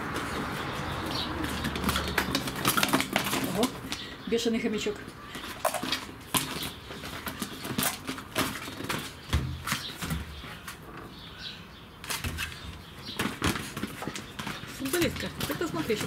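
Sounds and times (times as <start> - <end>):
claws and ball scraping on tiles: 0.0 - 4.1, 5.2 - 11.2, 12.0 - 16.0.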